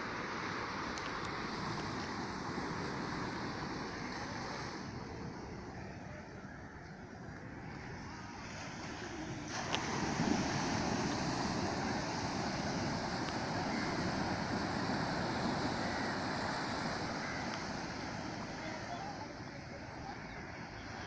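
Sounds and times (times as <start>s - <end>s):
surf washing onto beach: 0.0s - 5.6s, 8.0s - 21.0s.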